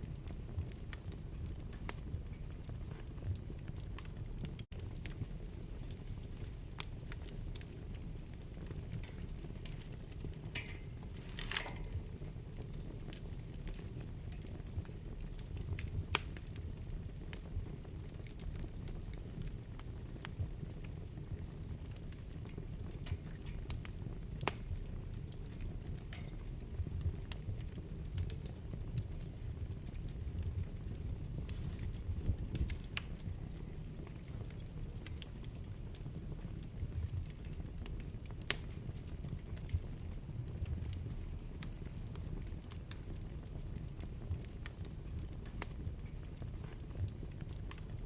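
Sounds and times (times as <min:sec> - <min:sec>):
low rush of flames: 0:00.0 - 0:48.0
wood crackling and popping: 0:00.0 - 0:48.0.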